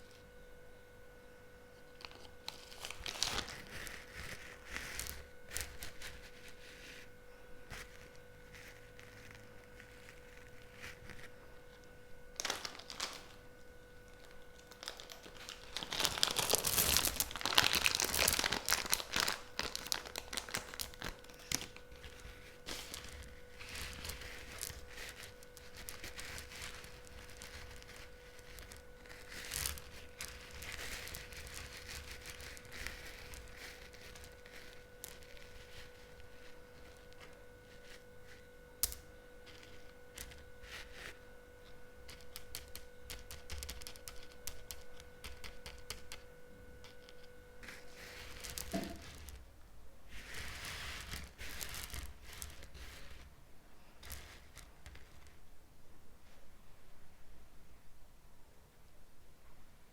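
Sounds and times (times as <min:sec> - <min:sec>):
candy wrappers crinkling and tearing: 0:02.0 - 0:07.1, 0:07.7 - 0:49.5, 0:50.1 - 0:55.3.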